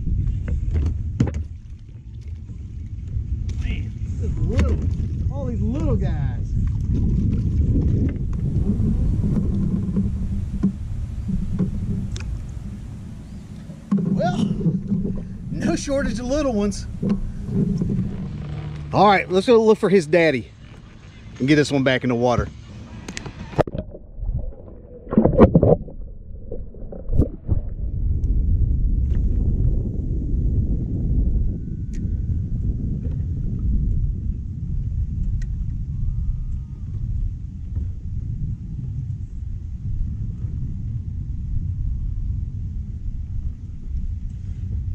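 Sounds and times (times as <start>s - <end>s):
wind and water rumble: 0.0s - 44.9s.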